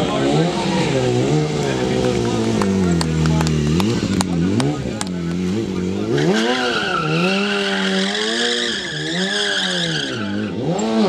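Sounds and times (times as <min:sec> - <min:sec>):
motorcycle engine revving: 0:00.0 - 0:11.0
tire squealing on asphalt: 0:00.1 - 0:11.0.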